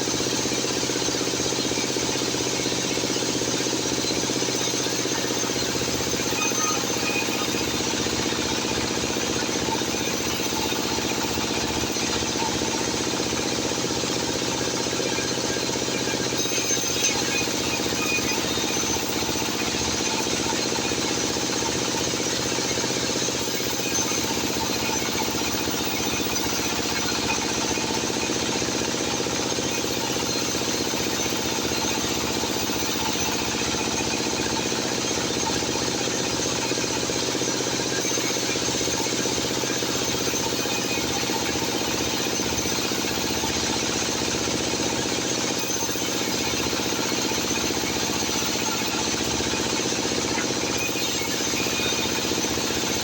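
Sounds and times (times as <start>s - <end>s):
sawmill machinery humming: 0.0s - 53.0s.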